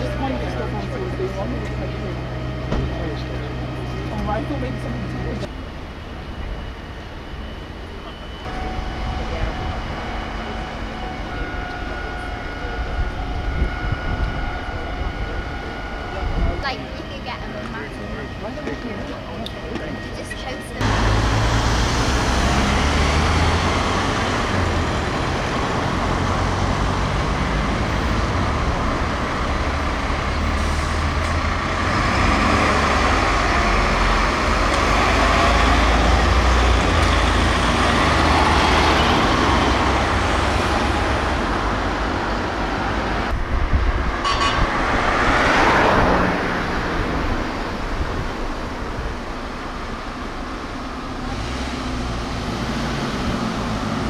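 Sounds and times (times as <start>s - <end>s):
fire engines driving past: 0.0s - 54.0s
road traffic noise: 0.0s - 54.0s.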